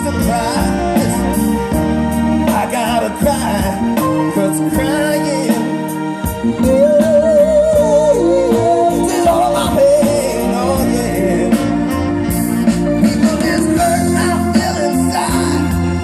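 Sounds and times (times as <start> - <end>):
band playing soul song: 0.0 - 16.0.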